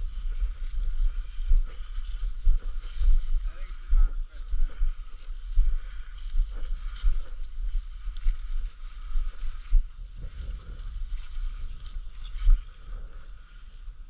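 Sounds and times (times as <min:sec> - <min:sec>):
dry grass rustling: 0:00.0 - 0:14.0.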